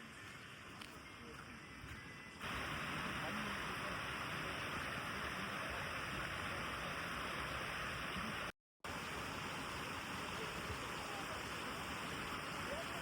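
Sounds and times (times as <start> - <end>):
mountain stream rushing: 2.4 - 13.0.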